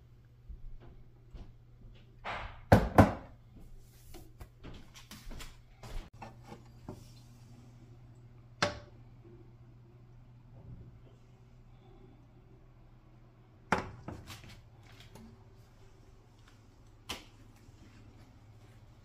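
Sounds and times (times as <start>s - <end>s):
low steady hum: 3.2s - 19.0s.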